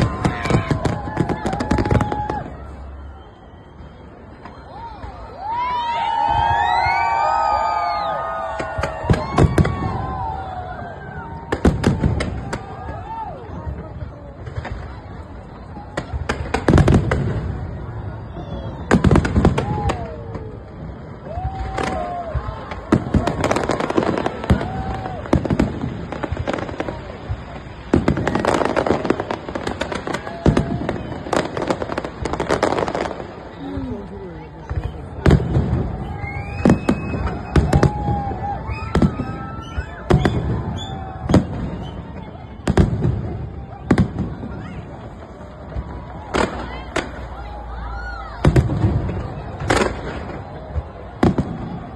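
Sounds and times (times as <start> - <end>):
fireworks exploding: 0.0 - 51.9.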